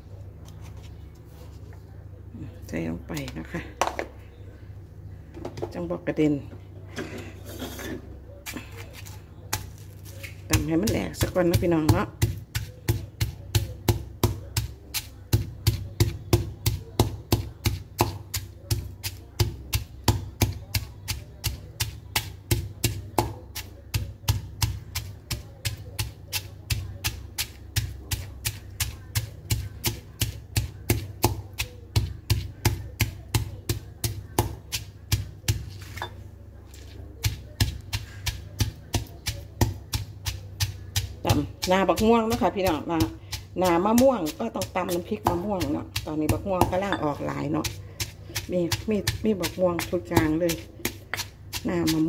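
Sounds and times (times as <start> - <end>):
pestle pounding in stone mortar: 9.0 - 36.0, 36.8 - 52.0.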